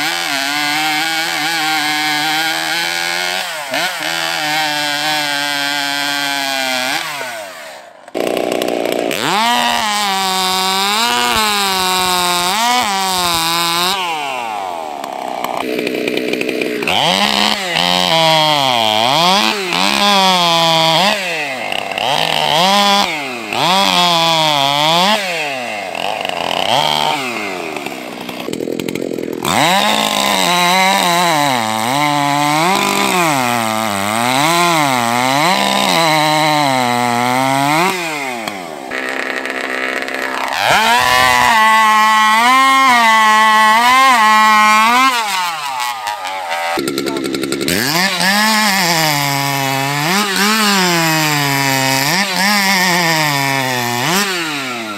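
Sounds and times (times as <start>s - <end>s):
chainsaws cutting wood: 0.0s - 54.9s.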